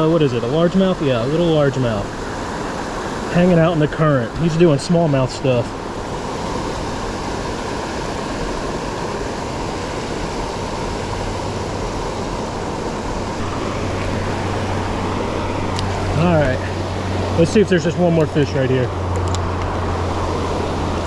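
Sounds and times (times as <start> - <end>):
fast-flowing creek water: 0.0 - 21.0.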